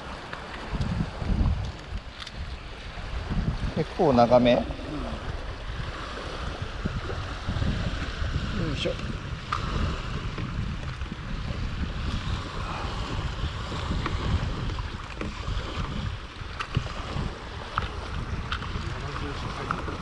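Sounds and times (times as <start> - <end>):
water lapping at rocks: 0.0 - 20.0
wind buffeting microphone: 0.0 - 20.0.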